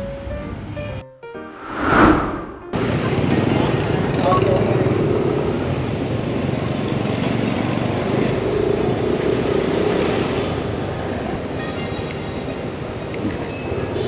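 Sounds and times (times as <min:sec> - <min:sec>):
road and traffic noise: 0:01.6 - 0:14.0.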